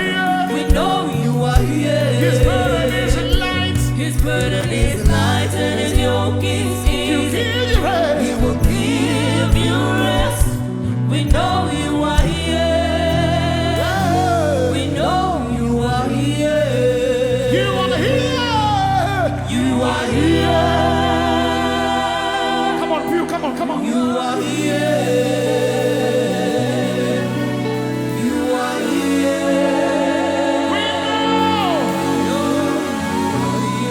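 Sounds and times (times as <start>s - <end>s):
band holding sustained chords: 0.0s - 33.9s
singers and choir singing: 0.0s - 33.9s.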